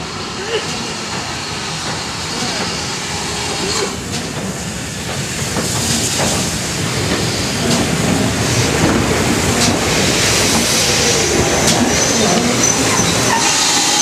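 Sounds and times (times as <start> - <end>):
steam hissing: 0.0 - 14.0
steam locomotive passing: 0.0 - 14.0.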